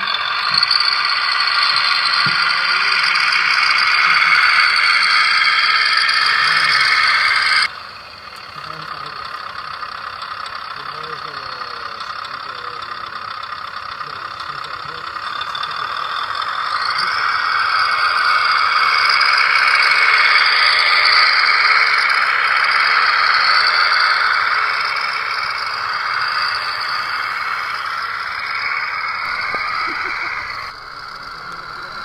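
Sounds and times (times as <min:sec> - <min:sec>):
toy truck motor and gears whirring: 0:00.0 - 0:32.0.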